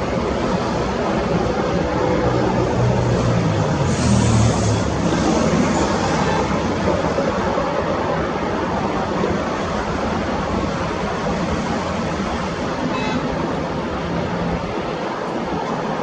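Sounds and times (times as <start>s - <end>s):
turboprop airliner engines humming: 0.0s - 3.9s, 4.5s - 16.0s.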